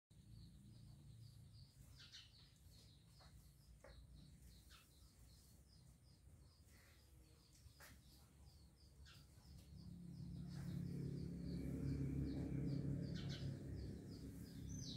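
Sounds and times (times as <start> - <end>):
faint birds chirping: 0.1 - 14.9.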